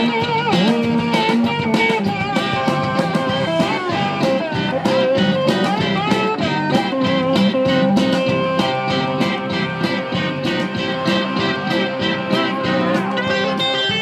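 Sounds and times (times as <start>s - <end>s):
bass guitar: 0.0s - 14.0s
drum beat: 0.0s - 14.0s
electric guitar with bending notes: 0.0s - 14.0s.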